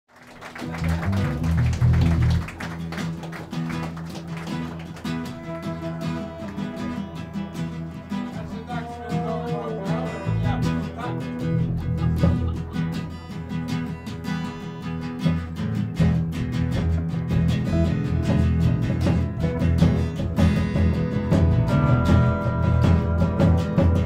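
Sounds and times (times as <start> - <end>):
drums: 0.2 - 24.0
electric guitars: 0.2 - 24.0
bass guitar: 0.4 - 24.0
acoustic guitar strumming: 0.7 - 24.0.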